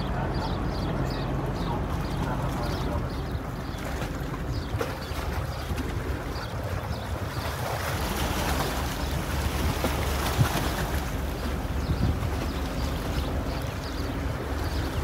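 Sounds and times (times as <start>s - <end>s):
water sloshing: 0.0s - 15.0s
wind on microphone: 0.0s - 15.0s.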